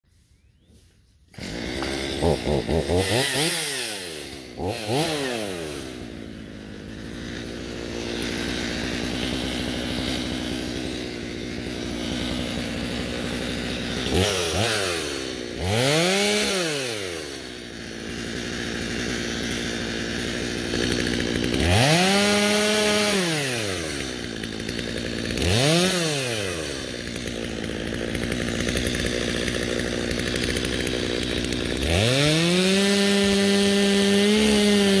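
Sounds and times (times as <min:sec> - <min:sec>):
chainsaw revving and idling: 0:01.3 - 0:35.0.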